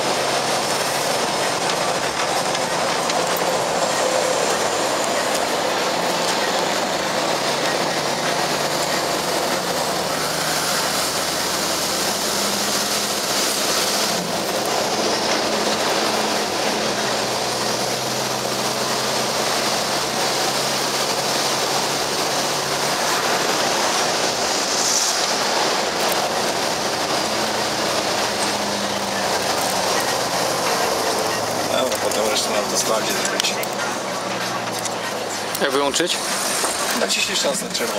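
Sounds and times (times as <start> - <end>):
truck diesel engine: 0.0 - 37.9
tyre and road noise: 0.0 - 37.9.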